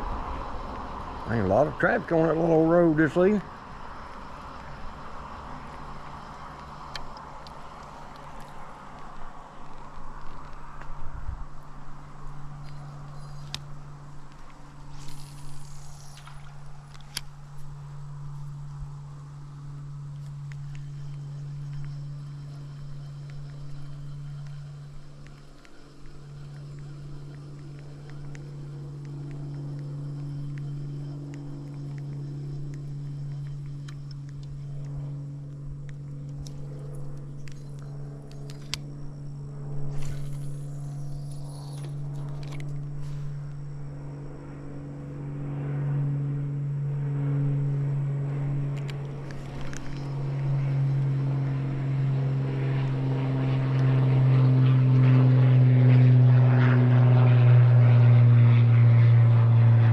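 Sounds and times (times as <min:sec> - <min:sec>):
propeller airplane engine: 0:00.0 - 0:59.9.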